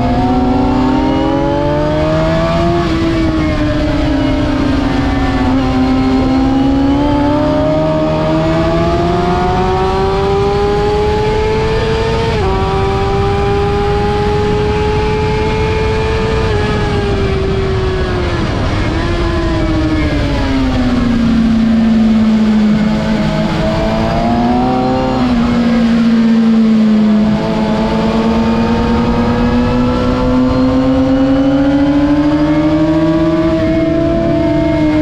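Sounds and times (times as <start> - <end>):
motorcycle engine: 0.0 - 35.0
wind rush over microphone: 0.0 - 35.0.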